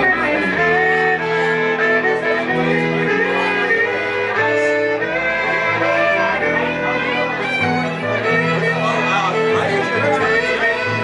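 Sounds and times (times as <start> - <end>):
electric guitar: 0.0 - 11.0
fiddle sliding notes: 0.0 - 11.0
upright double bass: 0.0 - 11.0.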